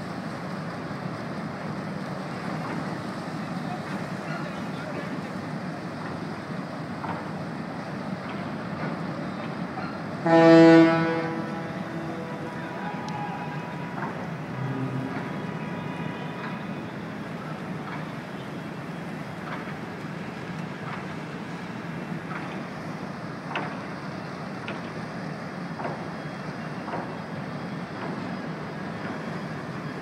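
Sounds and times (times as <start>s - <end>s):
ferry engines rumbling: 0.0s - 30.0s
harbour noise: 0.0s - 30.0s.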